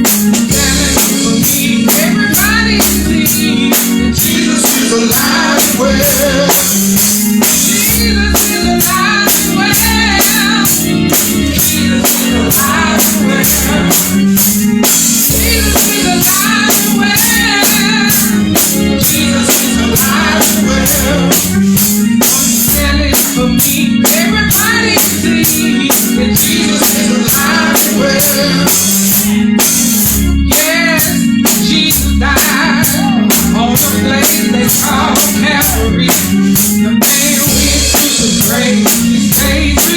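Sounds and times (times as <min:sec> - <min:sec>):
drum kit beat: 0:00.0 - 0:39.9
people singing: 0:00.0 - 0:39.9.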